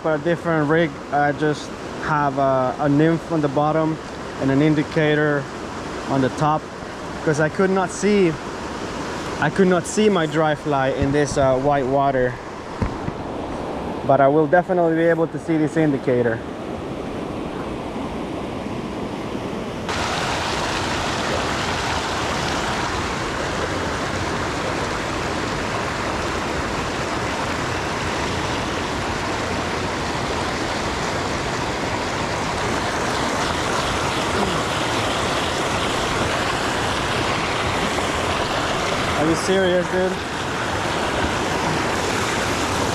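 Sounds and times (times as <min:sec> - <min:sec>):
creek water rushing over rocks: 0:00.0 - 0:18.3, 0:19.9 - 0:42.9.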